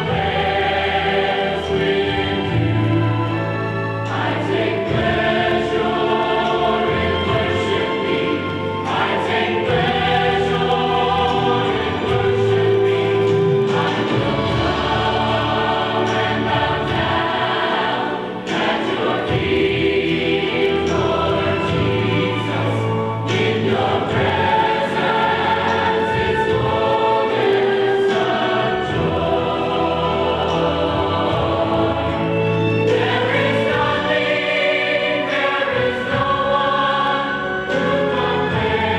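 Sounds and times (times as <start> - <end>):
choir singing sustained notes: 0.0 - 38.9.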